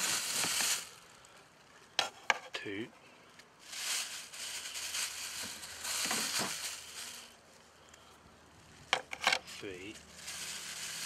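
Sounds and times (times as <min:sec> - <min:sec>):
crinkly rustling and scraping: 0:00.0 - 0:11.0.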